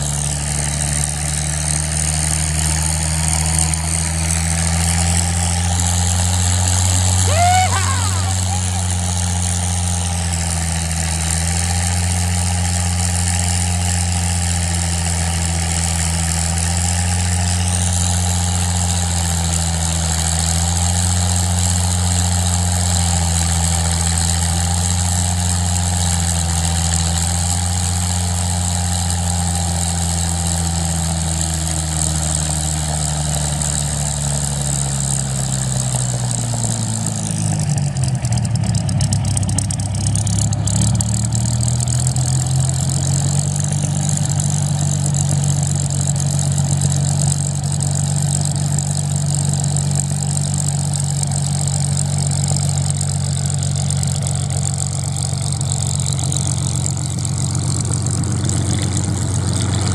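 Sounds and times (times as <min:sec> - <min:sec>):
aircraft engine idling: 0:00.0 - 0:59.9.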